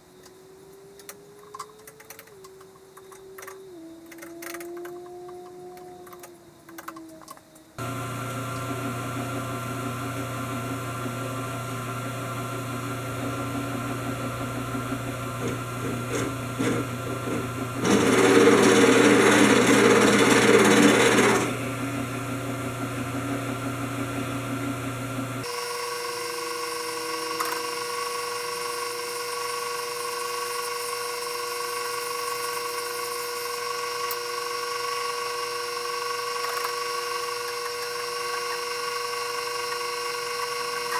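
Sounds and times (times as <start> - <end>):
milling machine motor hum: 7.8 - 40.9.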